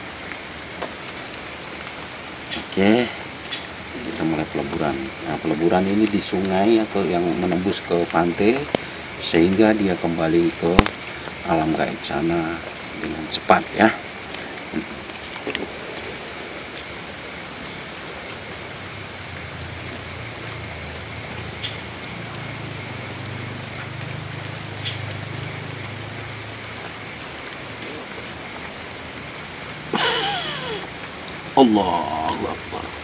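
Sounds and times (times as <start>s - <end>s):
background hiss: 0.0s - 33.0s
crickets chirping: 0.0s - 33.0s.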